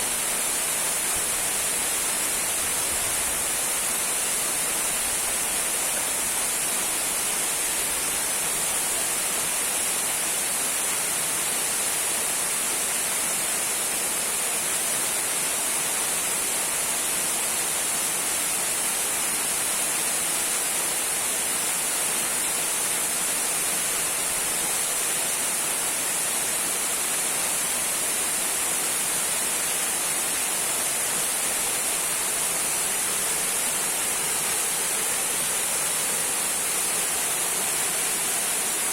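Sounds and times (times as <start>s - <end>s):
small waterfall trickling: 0.0s - 38.9s.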